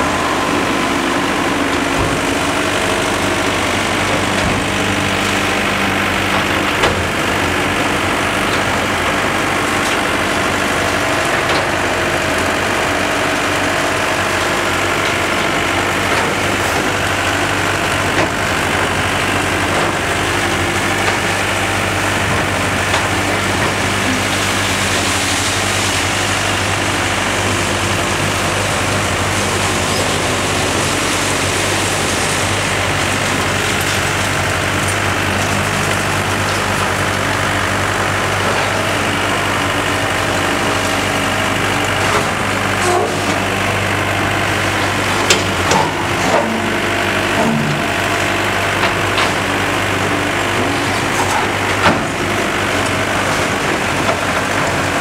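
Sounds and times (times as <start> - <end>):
excavator diesel engines: 0.0 - 55.0.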